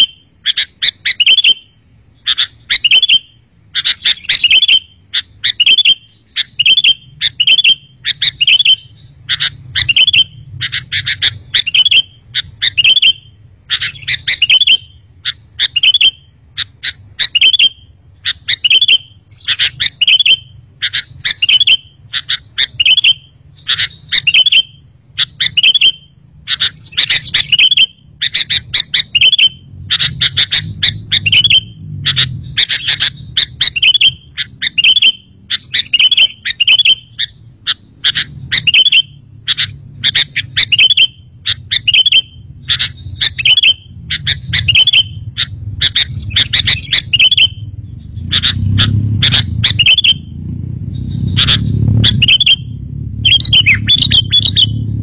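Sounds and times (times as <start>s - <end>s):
bulbul chirping song: 0.0s - 55.0s
faint low hum: 0.0s - 55.0s.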